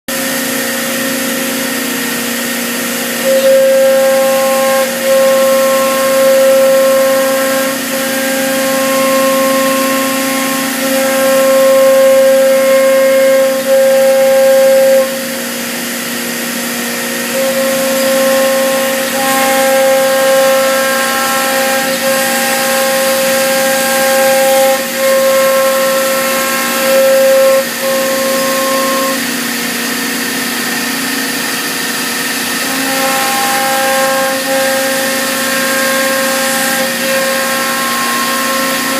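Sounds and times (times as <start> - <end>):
cnc router spindle whine: 0.1 - 38.9.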